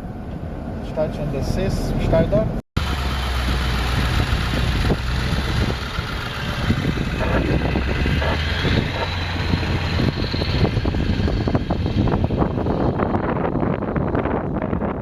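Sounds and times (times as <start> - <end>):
outdoor noise: 0.0 - 15.0
vehicle engine idling: 2.0 - 14.2
wind on microphone: 2.9 - 15.0.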